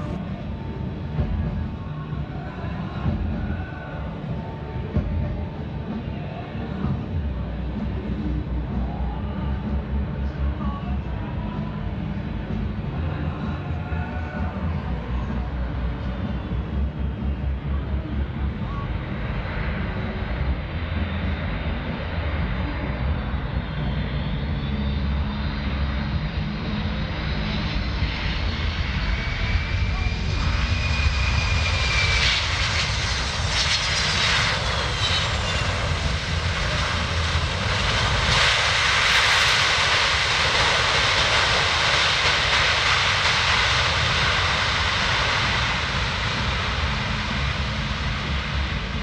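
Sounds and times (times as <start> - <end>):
engine whine shifting in pitch: 0.0 - 49.0
jet engines running: 0.0 - 49.0.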